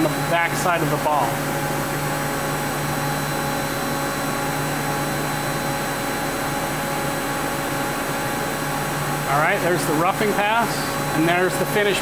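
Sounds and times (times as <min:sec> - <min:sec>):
machine hum and whir: 0:00.0 - 0:12.0.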